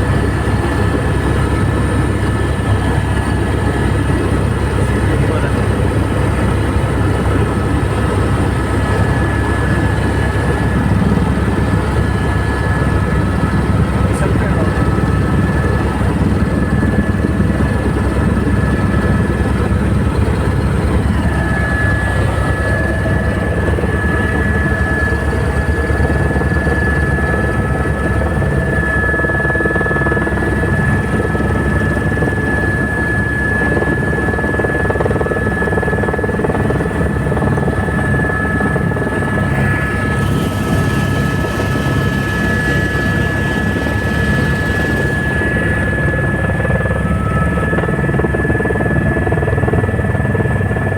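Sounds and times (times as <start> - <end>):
helicopter rotor beat: 0.0 - 50.9
high-pitched turbine whine: 0.0 - 50.9.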